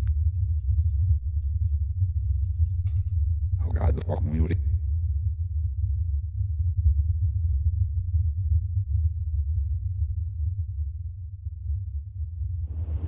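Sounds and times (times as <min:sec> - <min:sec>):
deep steady drone: 0:00.0 - 0:13.0.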